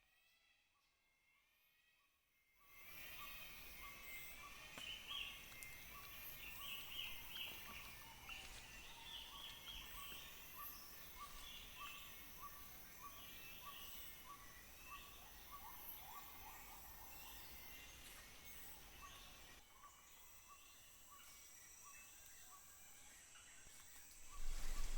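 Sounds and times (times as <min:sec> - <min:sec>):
high insect drone: 0:02.7 - 0:24.9.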